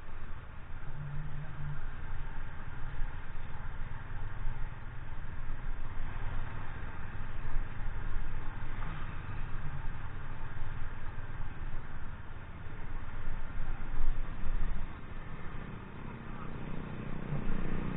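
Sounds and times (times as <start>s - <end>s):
motorcycle engine hum: 0.0s - 17.9s.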